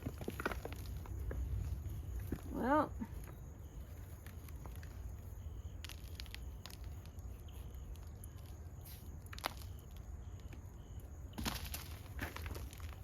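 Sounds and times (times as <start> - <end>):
soft crackles and clicks: 0.0 - 13.0.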